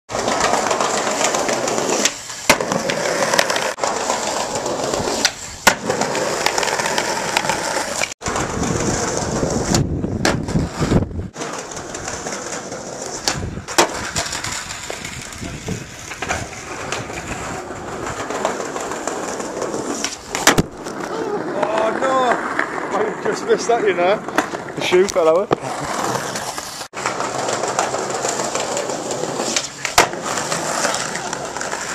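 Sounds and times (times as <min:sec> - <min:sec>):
skateboard clacking on ground: 0:00.1 - 0:31.9
skateboard wheels rolling on stone: 0:00.1 - 0:31.9.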